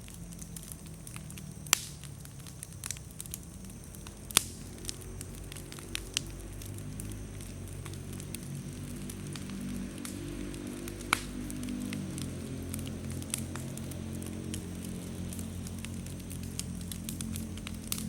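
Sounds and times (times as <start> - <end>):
bonfire flame rushing: 0.0 - 18.0
firewood crackling and popping: 0.0 - 18.0.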